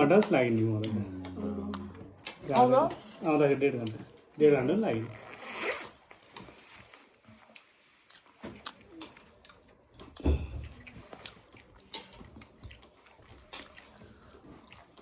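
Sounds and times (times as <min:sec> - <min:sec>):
eating and handling noises: 0:00.0 - 0:15.0.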